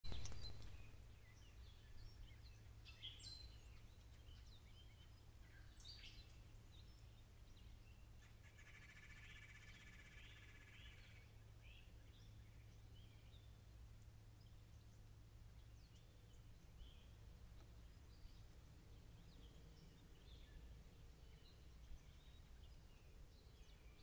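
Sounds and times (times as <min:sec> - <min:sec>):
songbird chirps and calls: 0:00.0 - 0:24.0.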